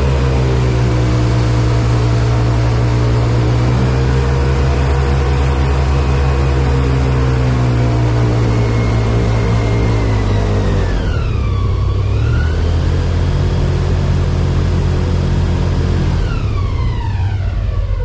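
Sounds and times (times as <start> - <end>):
airboat engine and propeller drone: 0.0 - 18.0.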